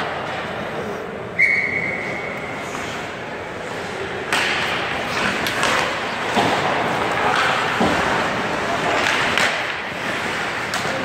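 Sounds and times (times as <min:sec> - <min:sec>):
hockey sticks clacking: 0:01.5 - 0:11.0
skates scraping on ice: 0:02.0 - 0:11.0.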